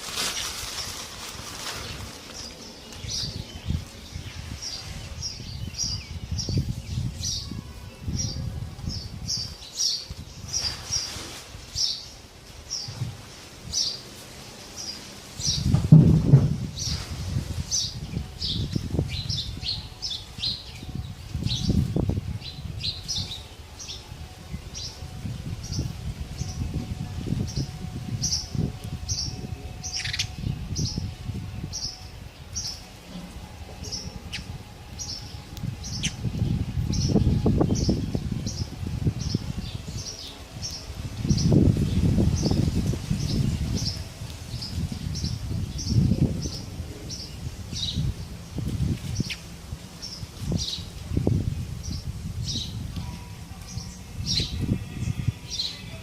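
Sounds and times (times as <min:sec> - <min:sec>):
low rumbling noise: 0:00.0 - 0:56.0
sparrows chirping: 0:00.2 - 0:16.0, 0:16.7 - 0:56.0.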